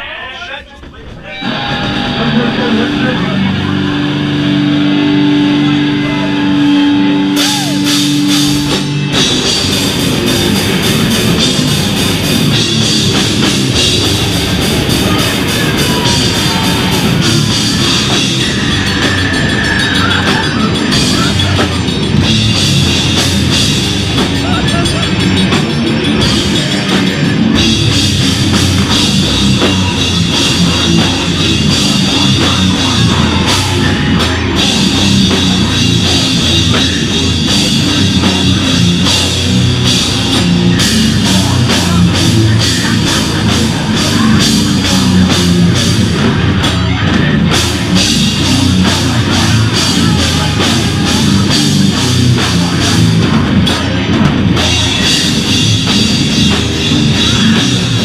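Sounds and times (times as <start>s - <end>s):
pounding drum kit: 0.8s - 58.0s
distorted electric guitars: 1.0s - 58.0s.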